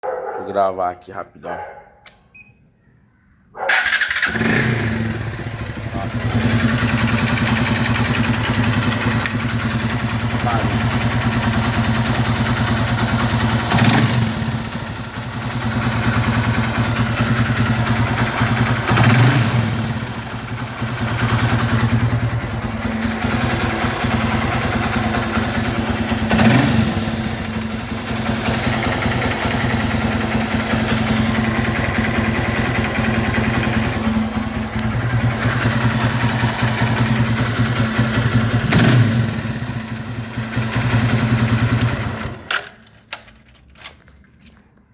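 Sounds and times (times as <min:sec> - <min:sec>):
motorcycle engine idling: 0:03.7 - 0:42.5
rapid engine ticking: 0:03.8 - 0:42.4.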